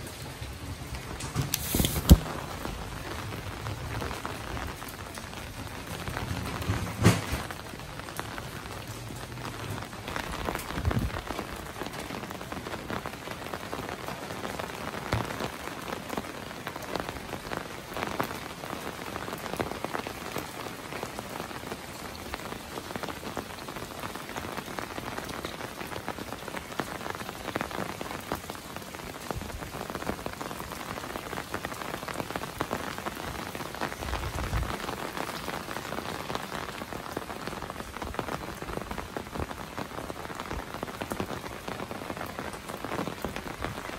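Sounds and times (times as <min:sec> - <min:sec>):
rain drops falling: 0:00.0 - 0:43.9.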